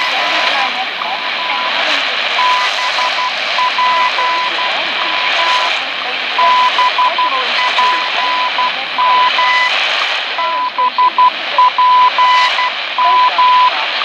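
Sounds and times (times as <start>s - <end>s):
morse code beeping tone: 0.0s - 9.8s, 10.4s - 13.8s
radio static hiss: 0.0s - 14.0s.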